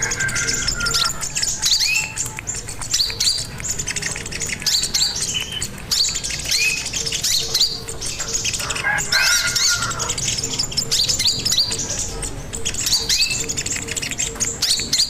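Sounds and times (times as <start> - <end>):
bird chirping and twittering: 0.0 - 15.0
bird warbling: 0.0 - 15.0.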